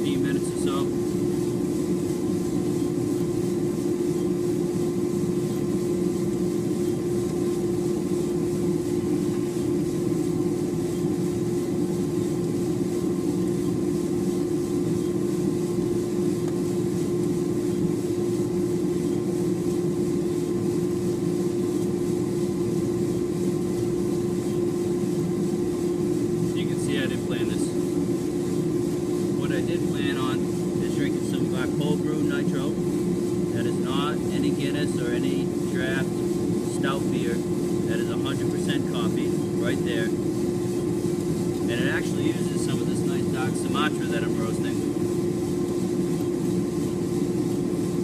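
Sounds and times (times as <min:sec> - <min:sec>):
coffee roaster humming and rushing: 0:00.0 - 0:48.0.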